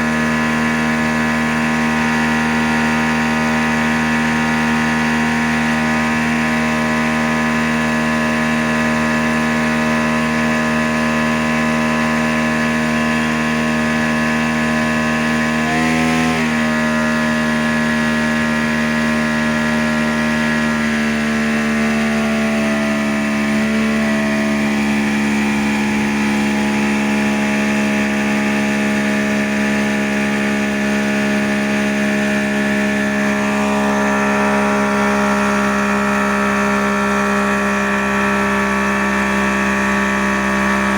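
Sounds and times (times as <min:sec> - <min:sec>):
outboard boat motor running: 0:00.0 - 0:40.9.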